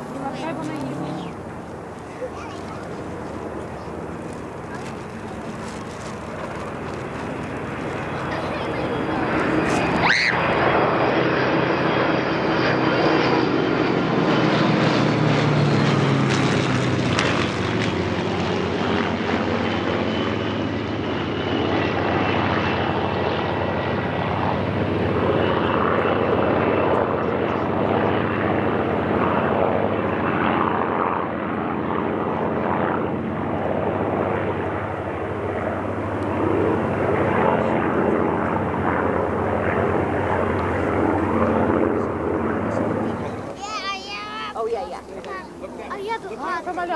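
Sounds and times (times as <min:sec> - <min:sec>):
propeller plane flying past: 0:00.0 - 0:46.9.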